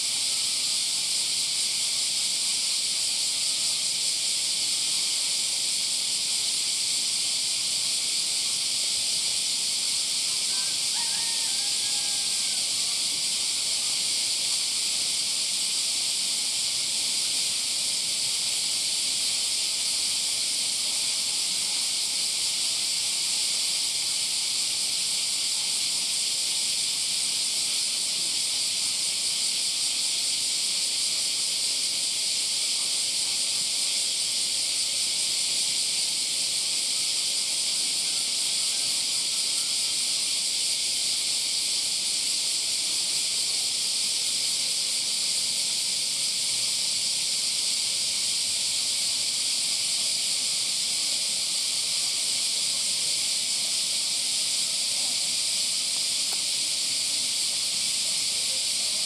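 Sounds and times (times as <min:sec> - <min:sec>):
cicadas chorus: 0:00.0 - 0:59.0.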